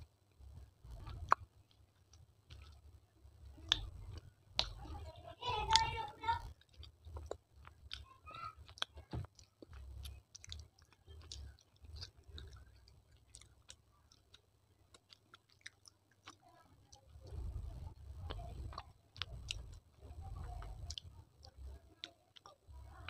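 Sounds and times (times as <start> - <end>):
crunchy chewing of clay: 0.0 - 23.0.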